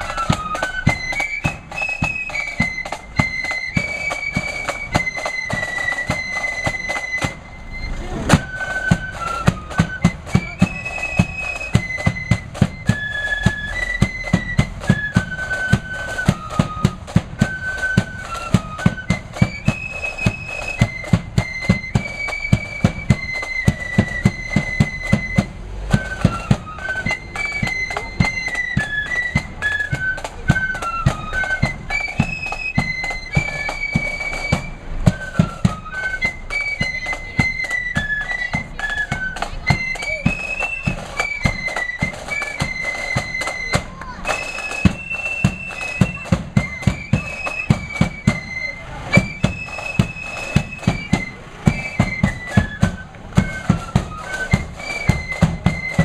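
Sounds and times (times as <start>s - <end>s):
flute band playing: 0.0s - 56.0s
marching drum beat: 0.0s - 56.0s.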